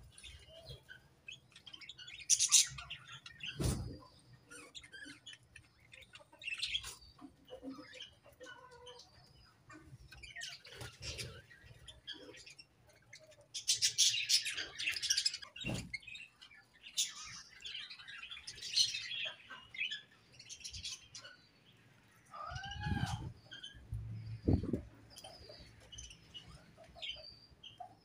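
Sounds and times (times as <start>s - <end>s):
budgerigars chirping and warbling: 0.1s - 28.0s.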